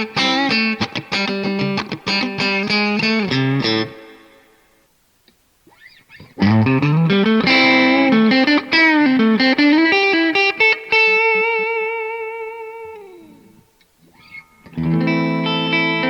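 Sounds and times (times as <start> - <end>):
electric guitar lead line: 0.0 - 4.5, 5.7 - 16.0.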